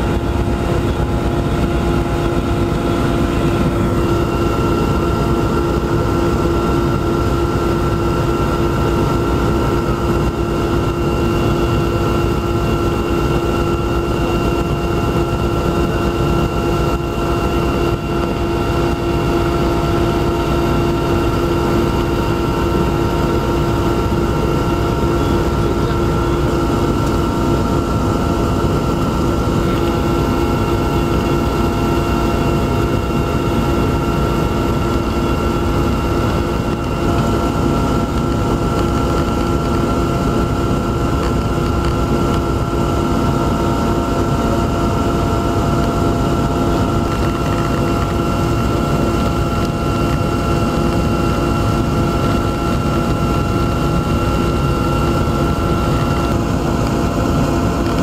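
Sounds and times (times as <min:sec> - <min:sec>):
aircraft engine drone: 0:00.0 - 0:58.0
steady whining tones: 0:00.0 - 0:58.0.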